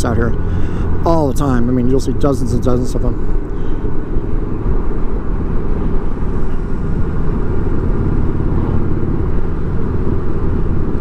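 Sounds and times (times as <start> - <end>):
motorcycle cruising: 0.0 - 11.0.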